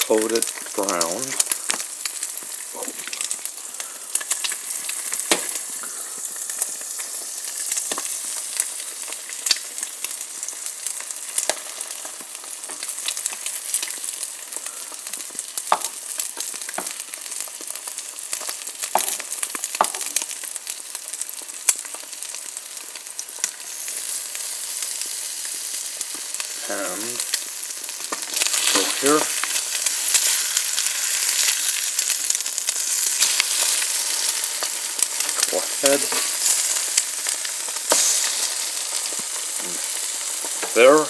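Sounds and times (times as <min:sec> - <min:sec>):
butter sizzling in frying pan: 0:00.0 - 0:41.0.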